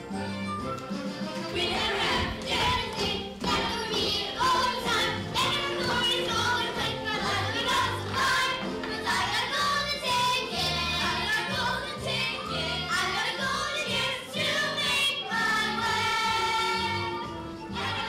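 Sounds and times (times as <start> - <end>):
instrumental accompaniment: 0.0 - 18.0
children's chorus singing: 1.5 - 18.0.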